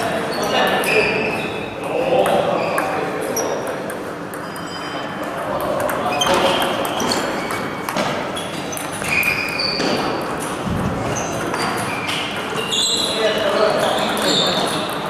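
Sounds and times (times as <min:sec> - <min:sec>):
table tennis balls clicking: 0:01.8 - 0:15.0.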